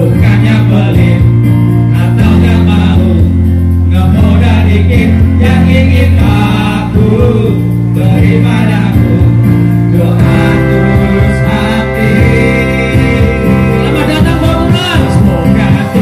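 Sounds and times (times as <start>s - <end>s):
keyboard accompaniment: 0.0s - 16.0s
people singing into microphones: 0.0s - 16.0s.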